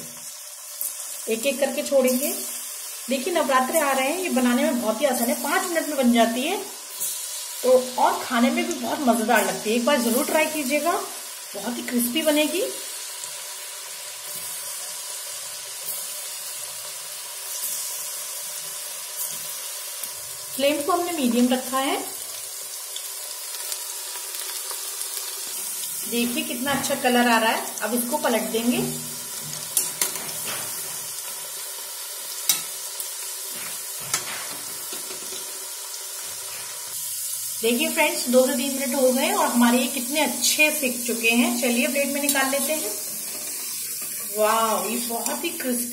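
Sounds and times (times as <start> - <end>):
potatoes sizzling in hot oil: 0.0 - 45.9.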